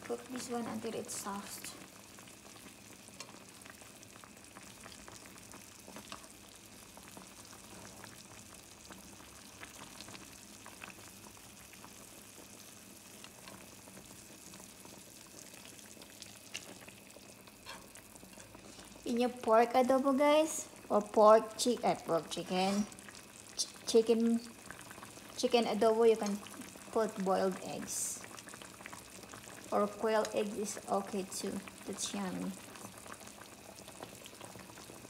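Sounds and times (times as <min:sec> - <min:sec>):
stew bubbling and sizzling: 0:00.0 - 0:35.0.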